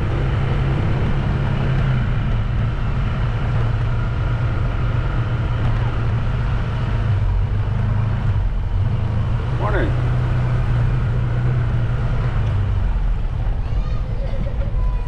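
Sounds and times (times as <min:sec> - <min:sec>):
road and wind noise: 0:00.0 - 0:15.0
vehicle engine humming: 0:00.0 - 0:15.0.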